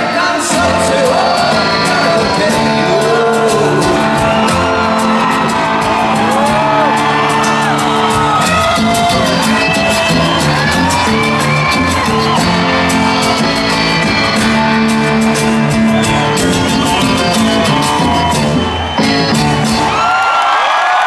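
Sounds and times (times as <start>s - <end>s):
live rock band playing: 0.0s - 20.2s
audience shouting along: 0.0s - 21.0s
crowd cheering and whistling: 0.0s - 21.0s.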